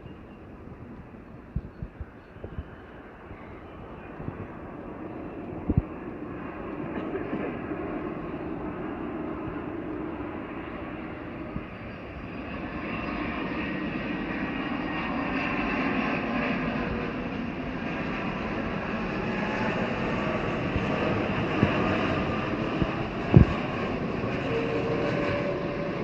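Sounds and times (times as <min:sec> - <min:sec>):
jet airliner engines rumbling: 0:00.0 - 0:26.0.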